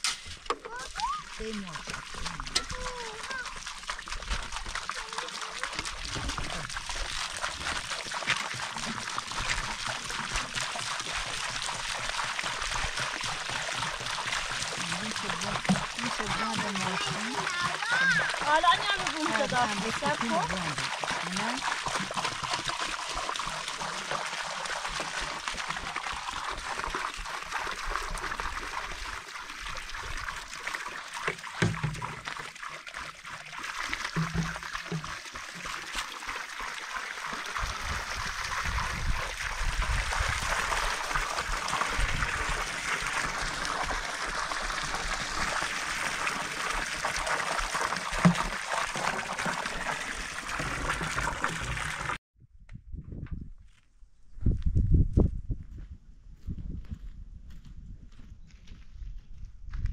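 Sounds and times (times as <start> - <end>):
water pouring into sand: 0.0 - 52.2.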